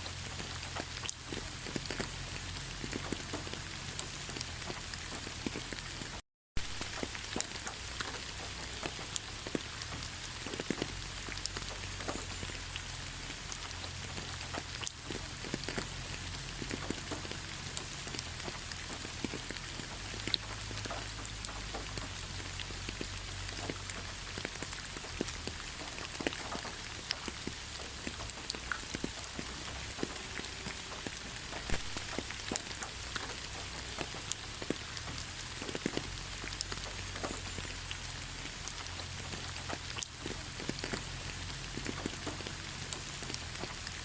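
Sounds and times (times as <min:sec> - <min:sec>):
gentle rain hiss: 0:00.0 - 0:44.0
raindrops pattering on a surface: 0:00.0 - 0:44.0.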